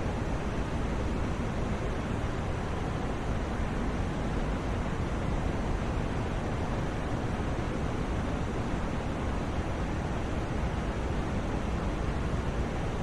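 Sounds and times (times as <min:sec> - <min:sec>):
steady white noise: 0:00.0 - 0:13.0.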